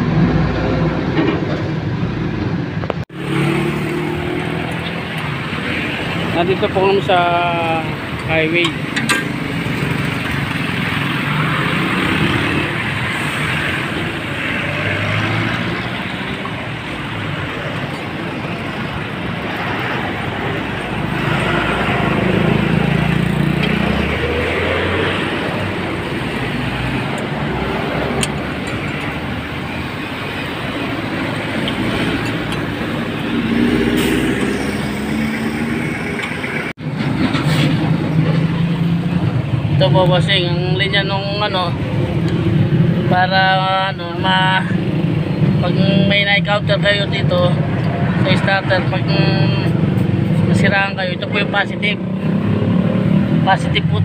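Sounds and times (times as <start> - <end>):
highway traffic passing: 0.0 - 54.0.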